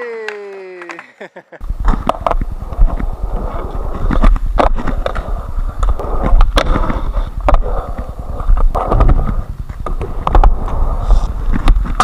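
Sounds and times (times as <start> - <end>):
skateboard wheels rumbling: 1.6 - 12.0
skateboard clacks: 1.8 - 12.0.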